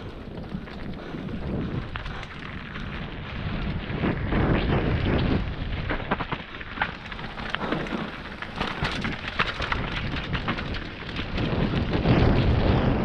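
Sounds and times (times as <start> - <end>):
tyres crunching over dirt: 0.0 - 12.8
bike clicks and rattles: 0.0 - 13.0
wind rumble on microphone: 0.0 - 13.0.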